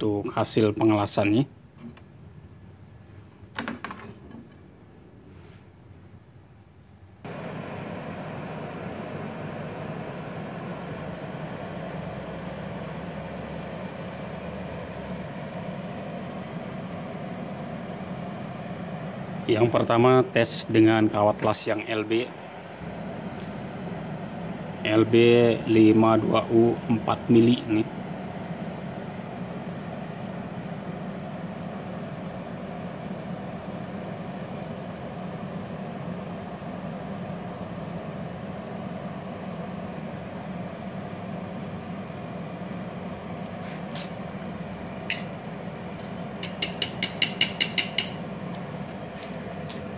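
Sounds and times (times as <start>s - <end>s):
welder cooling fan hum: 0.0s - 49.9s.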